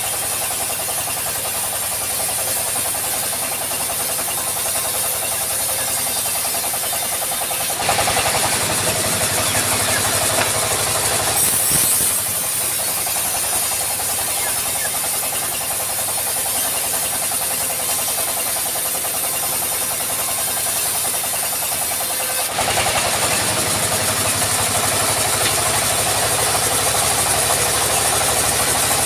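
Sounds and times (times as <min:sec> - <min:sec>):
saw hissing: 0:00.0 - 0:29.0
sawmill engine pulsing: 0:00.0 - 0:29.0.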